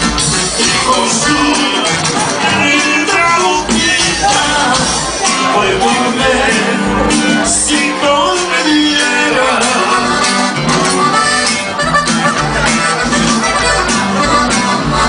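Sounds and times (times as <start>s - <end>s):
latin band music with accordion: 0.0s - 15.0s.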